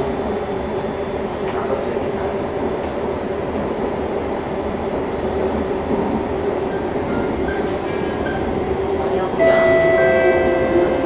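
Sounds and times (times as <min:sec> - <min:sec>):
metro train rumbling on track: 0:00.0 - 0:11.0.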